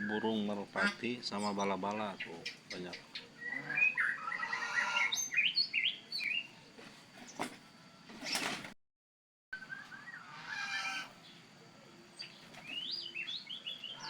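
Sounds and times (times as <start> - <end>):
birds chirping: 0.0 - 8.6, 9.6 - 14.0.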